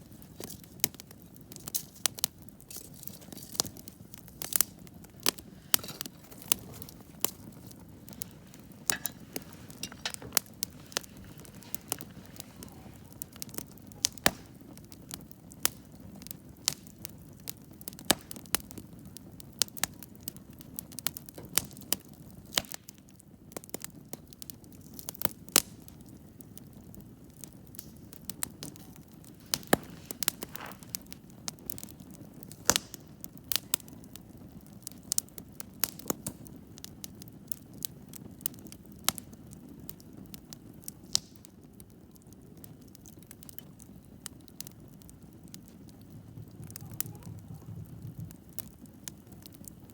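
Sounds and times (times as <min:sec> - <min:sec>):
fire hissing: 0:00.0 - 0:42.2, 0:42.8 - 0:49.9
campfire crackling: 0:00.0 - 0:49.9.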